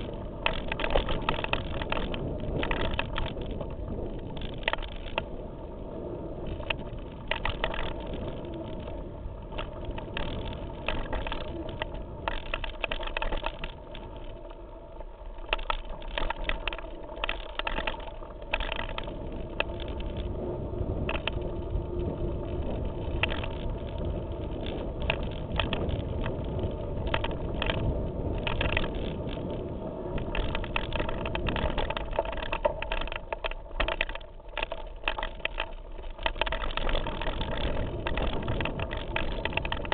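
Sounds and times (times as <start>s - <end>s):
bike knocking and rattling: 0.0s - 5.6s, 6.4s - 39.9s
bike tyres rumbling on stones: 0.0s - 39.9s.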